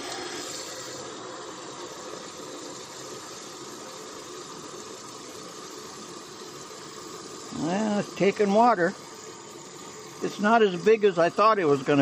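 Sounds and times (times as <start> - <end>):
hose running water: 0.0 - 12.0.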